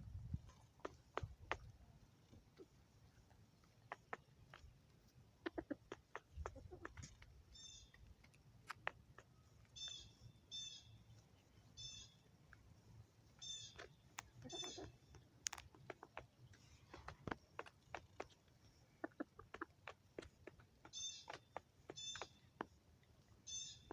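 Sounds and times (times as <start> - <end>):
chickens pecking at feed: 0.1 - 10.2, 12.2 - 23.9.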